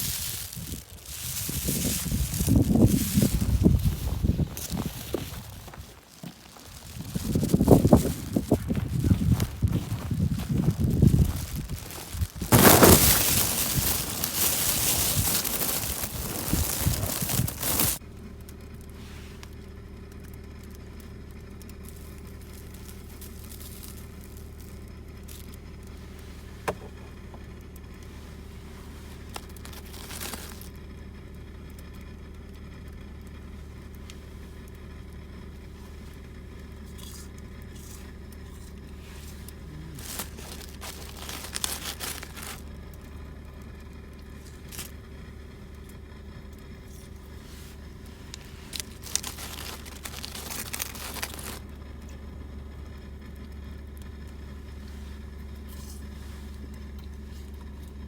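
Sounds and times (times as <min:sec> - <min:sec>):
crinkling rustles: 0:00.0 - 0:30.9, 0:33.6 - 0:43.2, 0:43.8 - 0:52.3, 0:53.8 - 0:58.0
low machine hum: 0:00.0 - 0:58.0.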